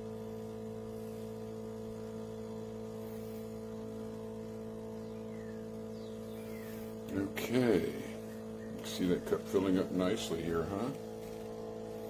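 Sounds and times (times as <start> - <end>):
espresso machine pump humming: 0.0 - 12.0.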